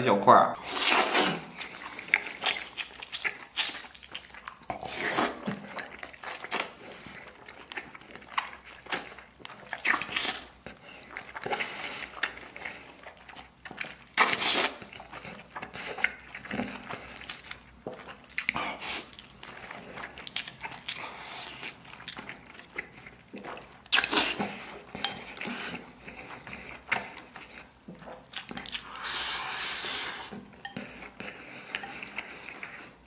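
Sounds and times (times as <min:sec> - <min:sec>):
man chewing wetly: 0:00.6 - 0:33.0.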